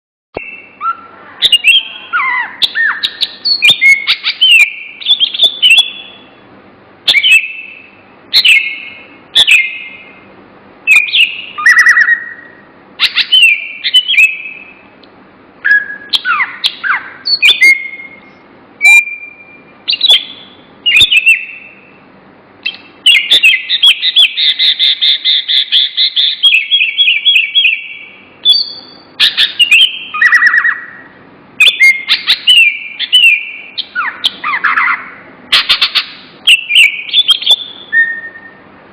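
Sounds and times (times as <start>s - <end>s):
songbird singing: 0.4s - 38.8s
songbird trill: 0.4s - 38.8s.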